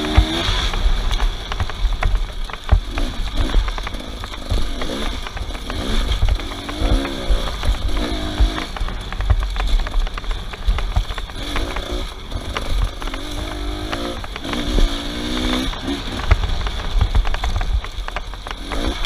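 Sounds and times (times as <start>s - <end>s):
off-road vehicle engines revving: 0.0s - 19.0s
sharp clicks and knocks: 0.0s - 19.0s.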